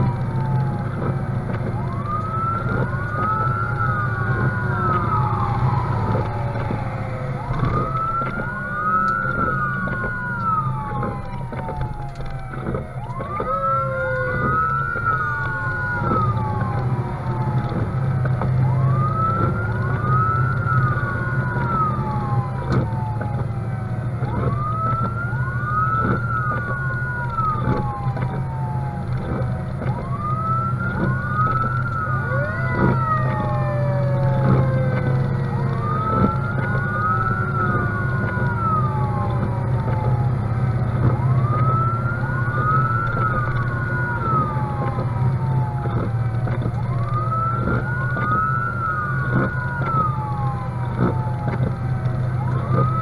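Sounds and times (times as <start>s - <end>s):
fire engine siren: 0.0s - 53.0s
truck engine drone: 0.0s - 53.0s.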